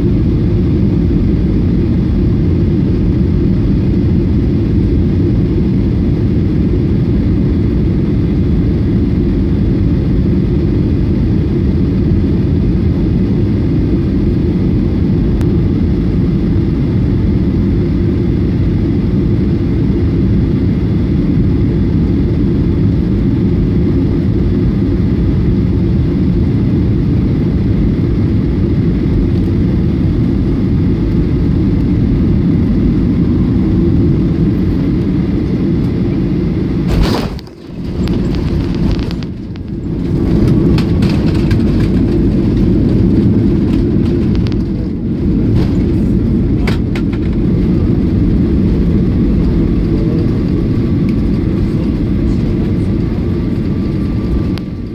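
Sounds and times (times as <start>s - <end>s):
airliner cabin roar: 0.0s - 54.9s.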